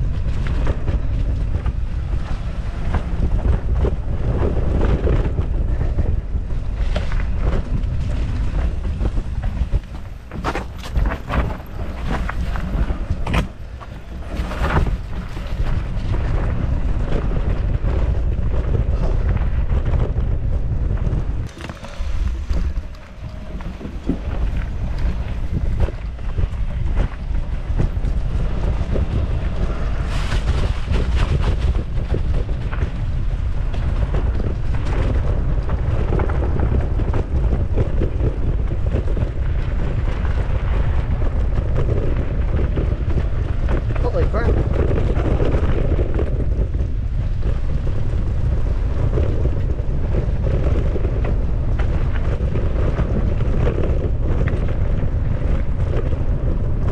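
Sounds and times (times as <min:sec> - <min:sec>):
bike clattering over bumps: 0:00.0 - 0:56.9
wind buffeting microphone: 0:00.0 - 0:56.9.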